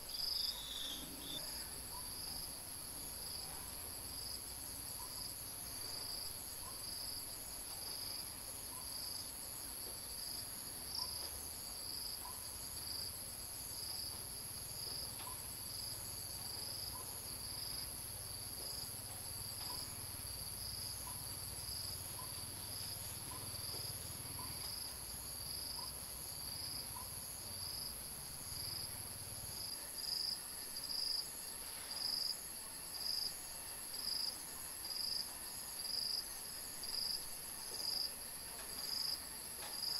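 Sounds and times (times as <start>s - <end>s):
insects buzzing and chirping: 0.0s - 39.9s.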